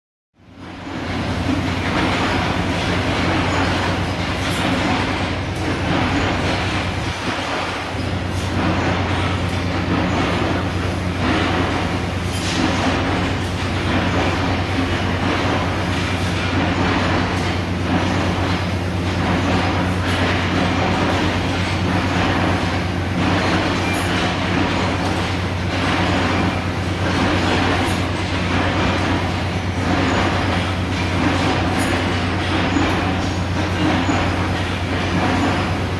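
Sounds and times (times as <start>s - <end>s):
machine rattling and hiss: 0.5s - 35.9s.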